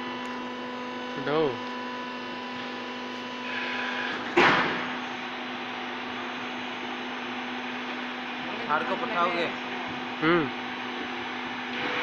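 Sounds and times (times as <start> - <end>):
baling press humming: 0.0 - 12.0.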